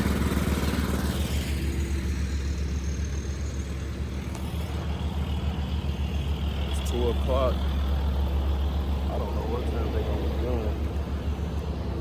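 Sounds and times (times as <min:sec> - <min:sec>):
machinery engine rumbling: 0:00.0 - 0:12.0.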